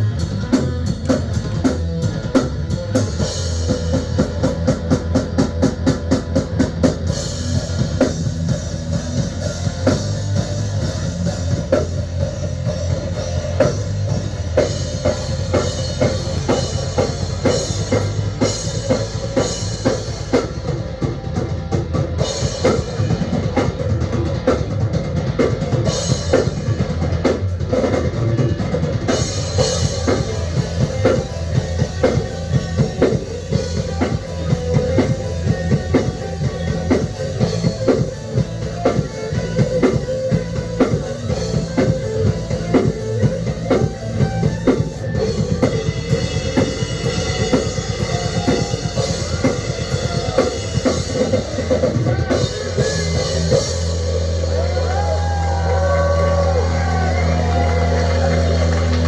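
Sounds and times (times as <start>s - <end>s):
fast drum roll: 0.0s - 59.0s
rock band playing: 0.0s - 59.0s.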